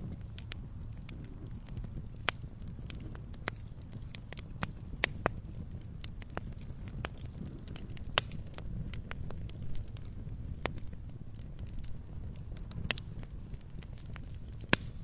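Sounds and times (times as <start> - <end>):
campfire crackling and popping: 0.0 - 15.0
flames rumbling: 0.0 - 15.0.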